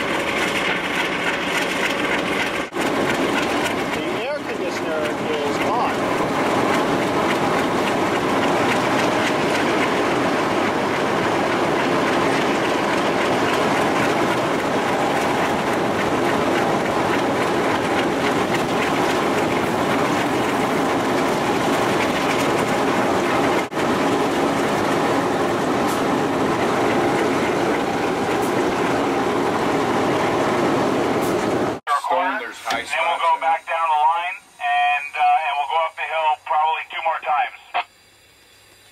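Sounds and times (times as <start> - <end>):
wheels clattering on rails: 0.0 - 31.8
locomotive diesel engine running: 0.0 - 38.9.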